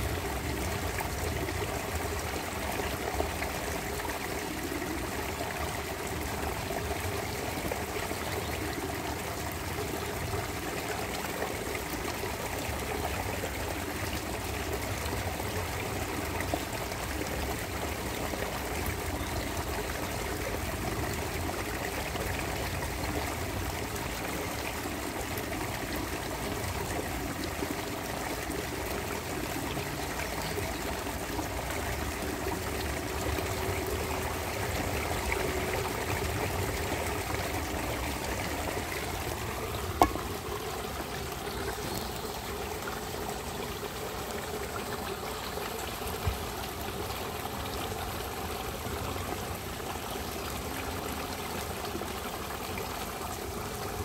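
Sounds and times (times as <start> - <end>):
waterfall: 0.0 - 54.0.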